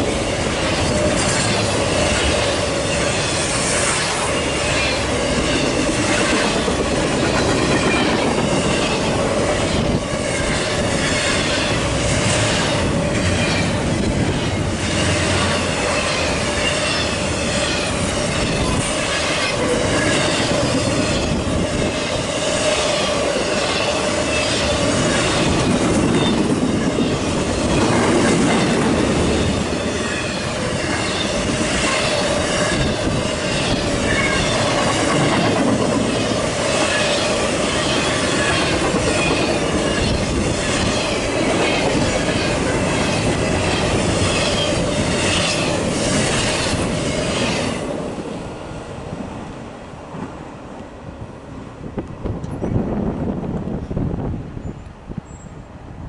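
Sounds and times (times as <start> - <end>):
train wheels rumbling on rail: 0.0 - 56.0
high wheel squeal: 0.1 - 47.8.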